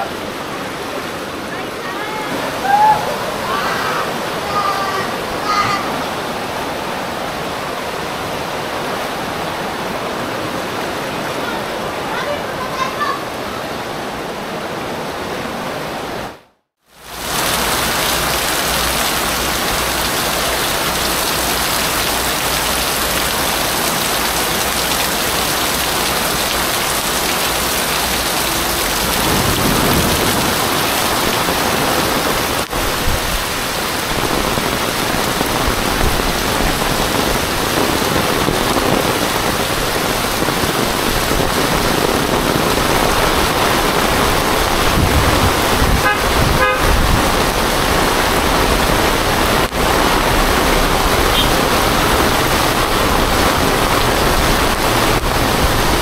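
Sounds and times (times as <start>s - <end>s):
heavy rain on pavement and roofs: 0.0s - 56.0s.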